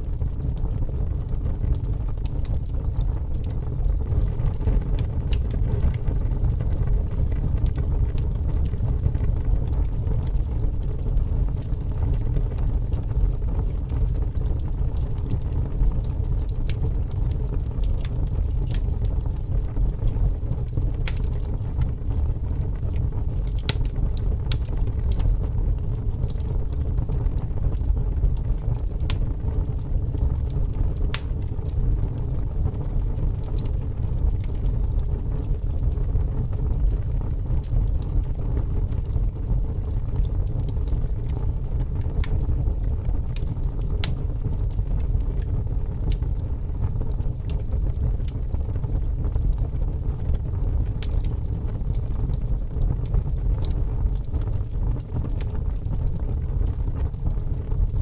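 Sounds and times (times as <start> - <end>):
fire crackles and pops: 0.0 - 58.0
fire roaring: 0.0 - 58.0.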